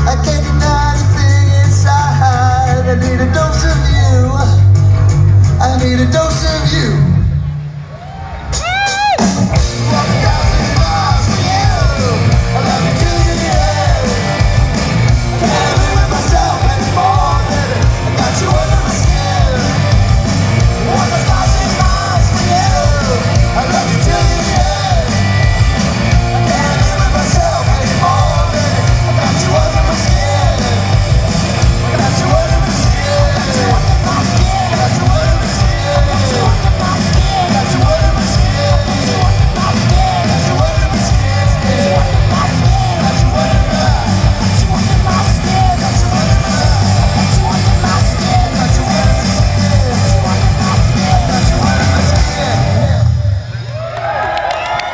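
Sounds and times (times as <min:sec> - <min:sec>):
man singing and shouting: 0:00.0 - 0:04.8, 0:05.5 - 0:07.2, 0:09.1 - 0:53.3
bass guitar: 0:00.0 - 0:54.9
drums: 0:00.0 - 0:54.9
electric guitars: 0:00.0 - 0:54.9.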